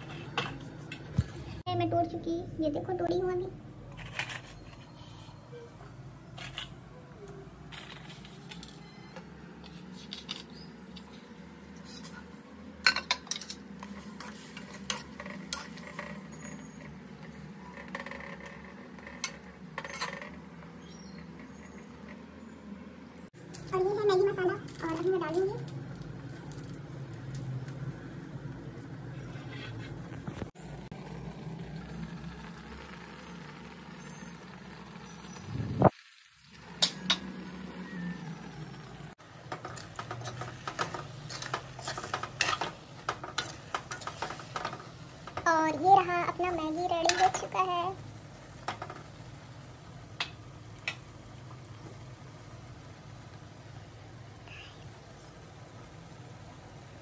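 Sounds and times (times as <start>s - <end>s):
low kitchen hum: 0.0s - 57.0s.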